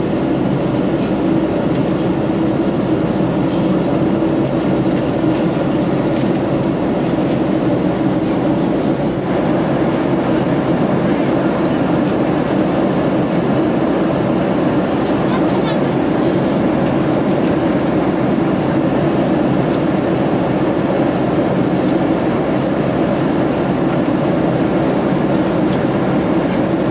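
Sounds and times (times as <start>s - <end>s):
jet engines droning: 0.0s - 26.9s.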